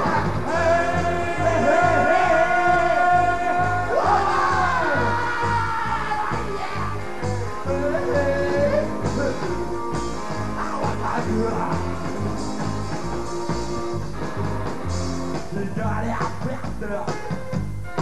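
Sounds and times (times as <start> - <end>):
driving bass line: 0.0 - 18.0
live rock band playing: 0.0 - 18.0.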